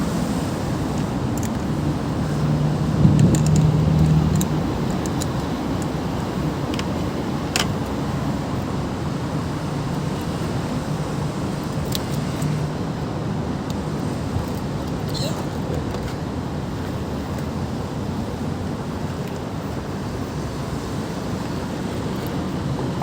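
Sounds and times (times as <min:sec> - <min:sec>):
motor vehicle hum: 0:00.0 - 0:23.0.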